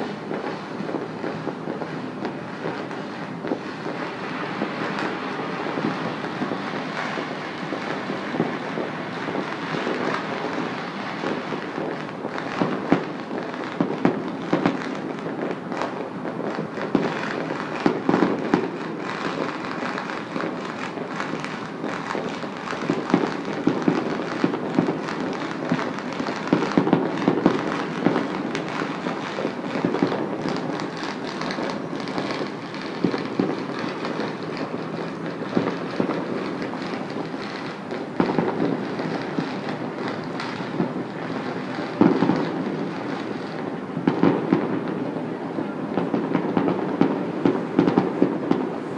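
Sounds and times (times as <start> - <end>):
fireworks and firecrackers banging: 0.0 - 48.9.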